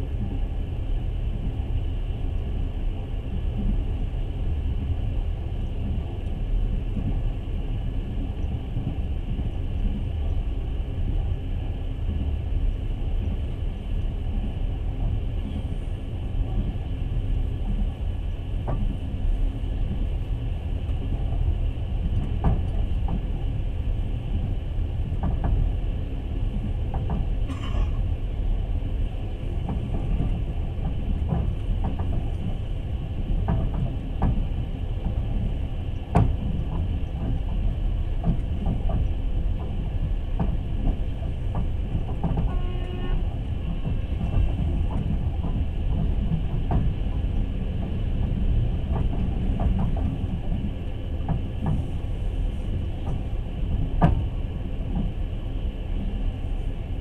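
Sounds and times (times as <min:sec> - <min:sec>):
train carriage rumbling: 0:00.0 - 0:57.0.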